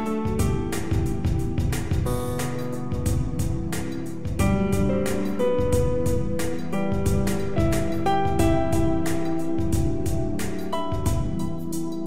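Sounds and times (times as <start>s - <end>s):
low bass line: 0.0s - 12.0s
plucked instrumental music: 0.0s - 12.0s.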